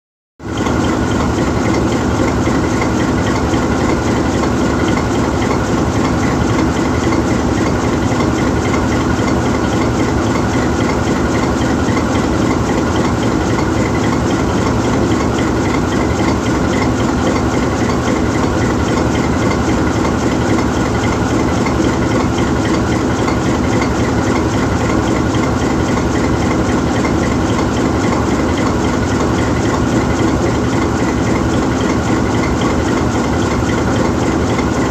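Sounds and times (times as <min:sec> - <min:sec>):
locomotive diesel engine idling: 0:00.4 - 0:34.9.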